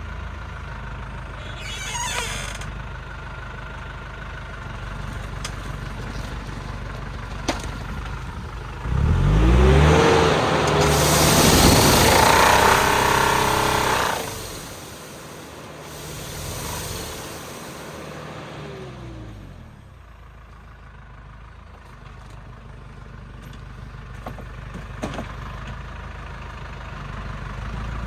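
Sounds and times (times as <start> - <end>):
engine winding down and idling: 0.0 - 28.0.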